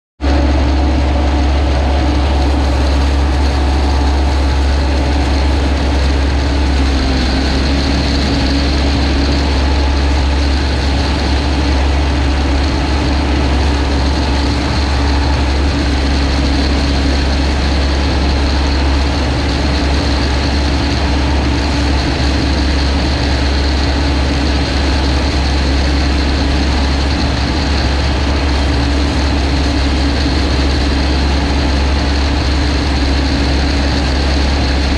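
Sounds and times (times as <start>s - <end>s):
combine harvester engine drone: 0.2s - 34.9s.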